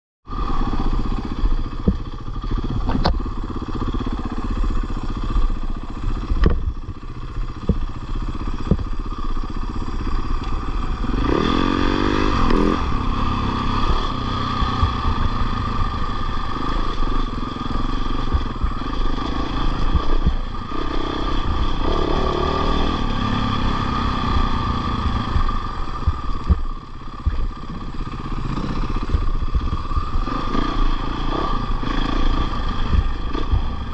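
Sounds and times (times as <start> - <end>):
dirt bike engine revving: 0.3 - 33.9.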